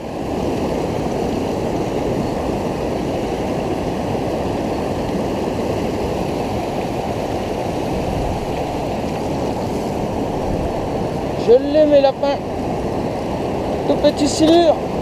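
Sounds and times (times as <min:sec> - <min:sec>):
river water rushing through rapids: 0:00.0 - 0:15.0.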